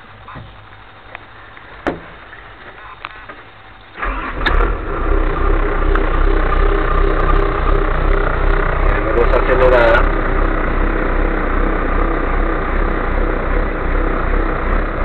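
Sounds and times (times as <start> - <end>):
diesel engine starting and running: 0.0 - 15.0.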